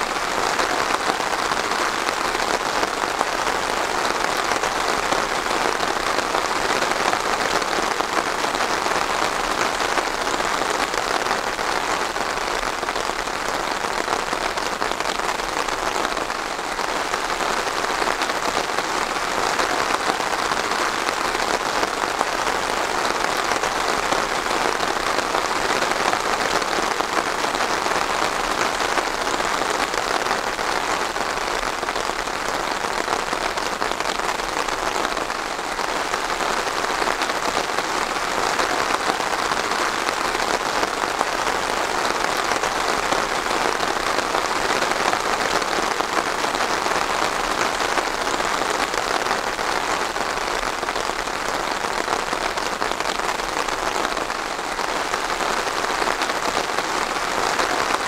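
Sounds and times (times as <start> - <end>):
steady rain on a surface: 0.0 - 58.0.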